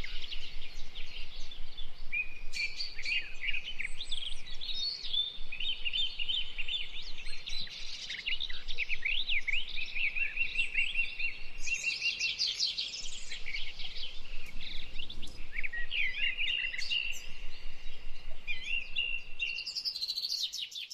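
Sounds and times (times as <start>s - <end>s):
songbirds singing and chirping: 0.0s - 20.9s.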